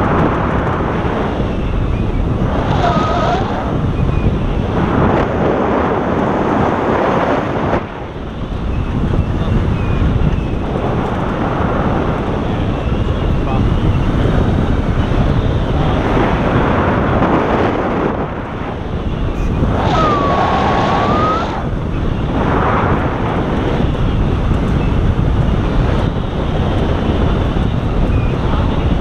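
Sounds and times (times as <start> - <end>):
wind rushing over microphone: 0.0 - 29.0.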